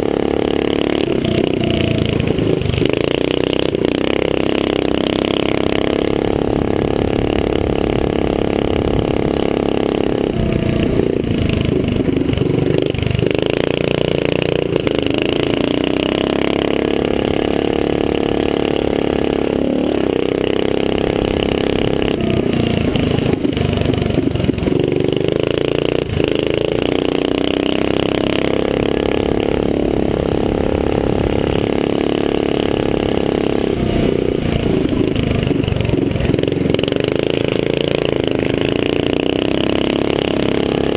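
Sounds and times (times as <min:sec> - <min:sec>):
small engine revving: 0:00.0 - 0:40.9.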